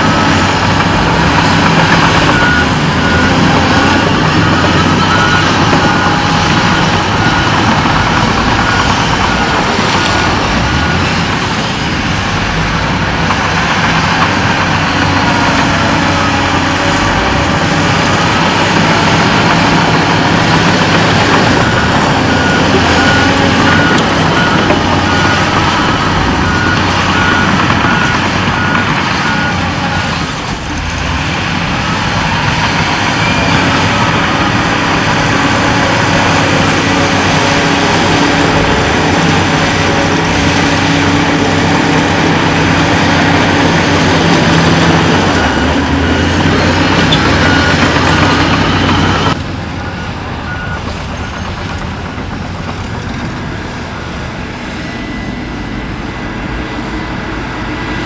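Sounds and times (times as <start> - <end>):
heavy earthmoving machinery running: 0.0 - 58.0
reversing alarm beeping: 0.0 - 58.0.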